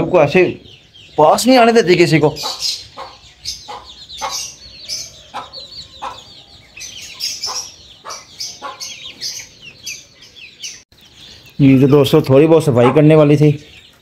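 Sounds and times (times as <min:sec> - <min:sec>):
chicks peeping: 0:00.0 - 0:14.0
hen clucking: 0:00.0 - 0:14.0.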